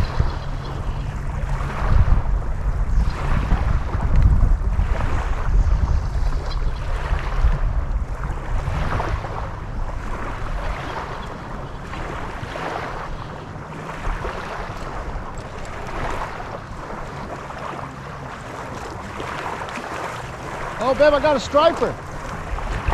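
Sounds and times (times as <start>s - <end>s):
lake waves washing: 0.0s - 22.9s
wind buffeting microphone: 0.0s - 22.9s.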